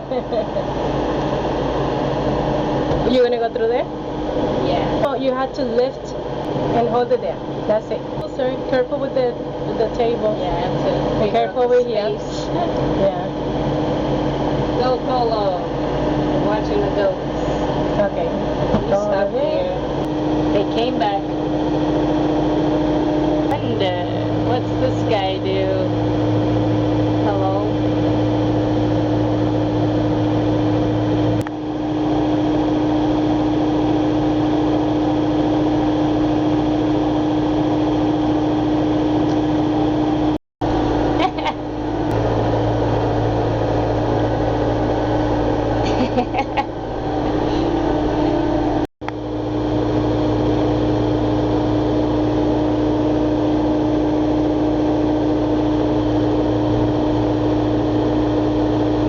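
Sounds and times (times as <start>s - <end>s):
loader engine running: 0.0s - 59.0s
steady low hum: 0.0s - 59.0s.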